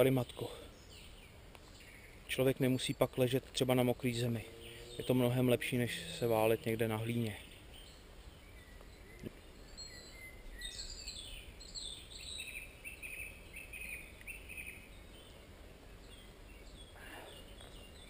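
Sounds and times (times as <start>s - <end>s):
birds chirping: 0.0s - 18.0s
faint background noise: 0.0s - 18.0s.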